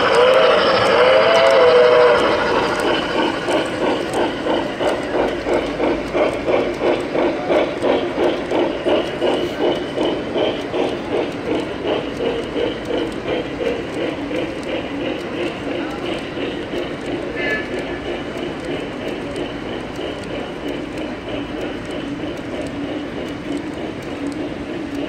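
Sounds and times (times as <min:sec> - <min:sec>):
model trains clattering: 0:00.0 - 0:25.0.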